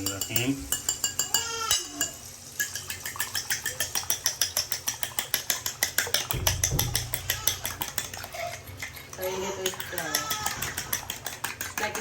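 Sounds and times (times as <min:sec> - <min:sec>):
utensil beating eggs in bowl: 0:00.0 - 0:12.0.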